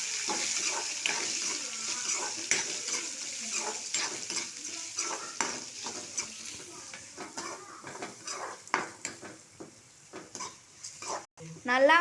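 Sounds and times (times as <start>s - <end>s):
onions sizzling in oil: 0.0s - 12.0s
spatula scraping and tapping pan: 0.1s - 11.3s.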